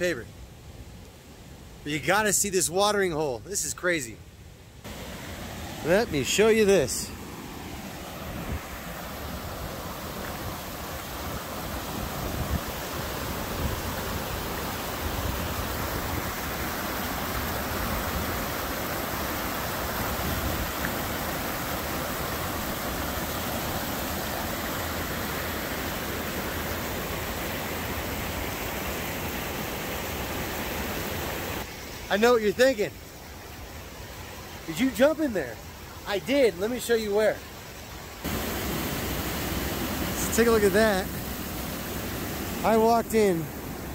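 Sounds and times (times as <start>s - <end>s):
creek water cascading into pool: 4.8s - 43.9s.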